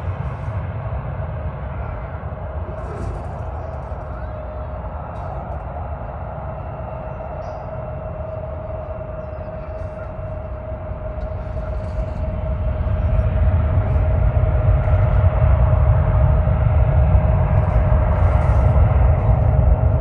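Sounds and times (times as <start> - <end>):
jet engines whining and rumbling: 0.0 - 20.0.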